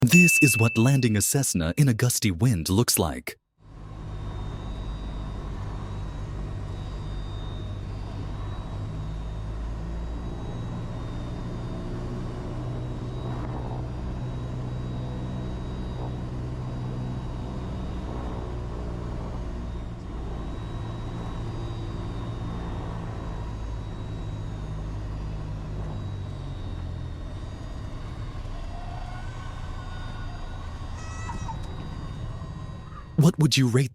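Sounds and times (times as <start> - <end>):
propeller plane engine droning: 3.6 - 33.2.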